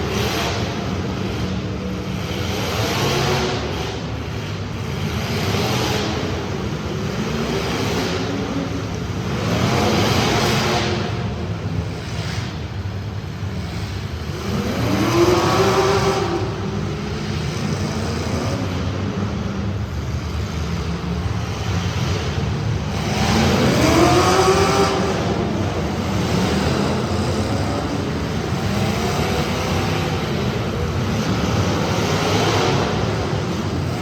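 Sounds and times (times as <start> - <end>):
race car engines accelerating: 0.0 - 34.0.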